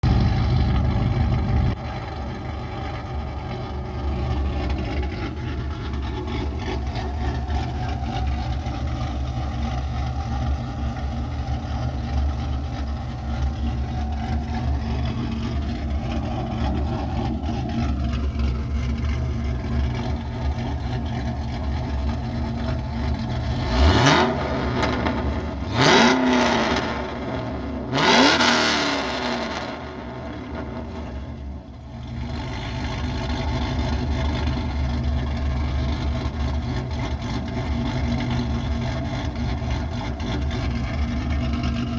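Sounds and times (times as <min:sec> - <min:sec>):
car engine idling with choppy lope: 0:00.0 - 0:41.9
engine revving: 0:00.0 - 0:41.9.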